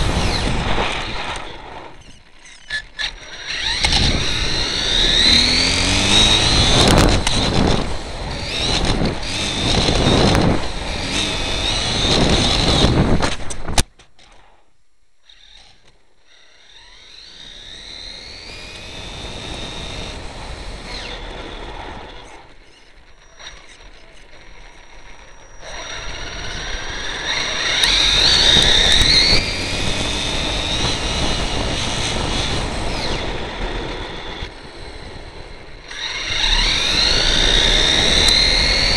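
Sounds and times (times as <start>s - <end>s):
electric motor whining: 0.0s - 13.8s, 15.2s - 38.9s
road noise: 0.0s - 13.8s, 16.7s - 38.9s.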